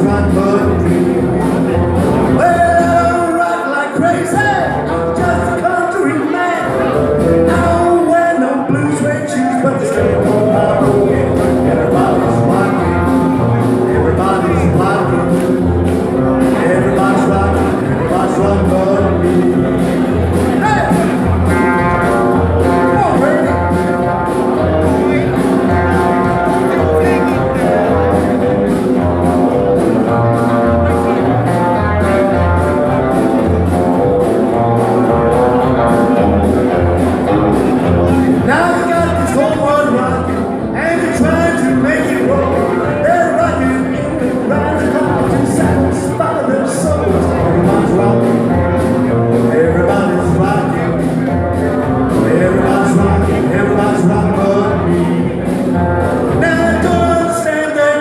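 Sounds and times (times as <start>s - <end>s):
pulsing bass notes: 0.0s - 3.3s, 4.3s - 5.6s, 6.2s - 8.2s, 9.6s - 57.4s
guitar: 0.0s - 58.0s
rock band playing: 0.0s - 58.0s
drums and cymbals: 9.7s - 46.2s, 46.8s - 57.4s.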